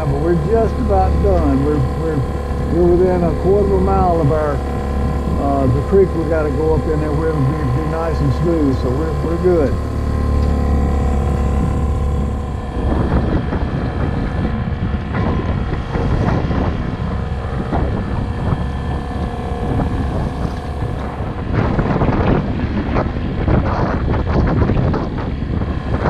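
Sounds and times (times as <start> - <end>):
outboard motor running: 0.0 - 26.0
wind buffeting microphone: 0.0 - 26.0.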